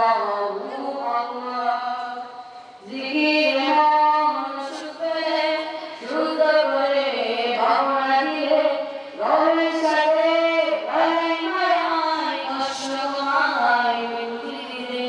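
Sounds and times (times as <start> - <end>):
boy chanting recitation: 0.0 - 15.0.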